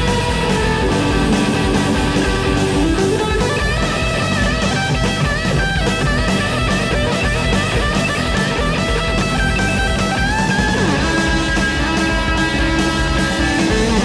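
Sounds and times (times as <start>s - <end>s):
rock band instrumental: 0.0s - 14.0s.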